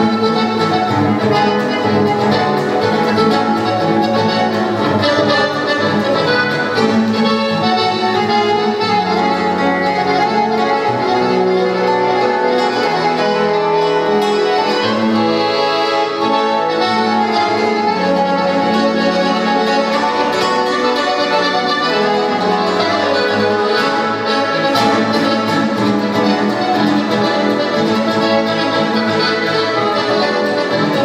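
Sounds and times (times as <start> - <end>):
instrumental latin american music: 0.0 - 31.0.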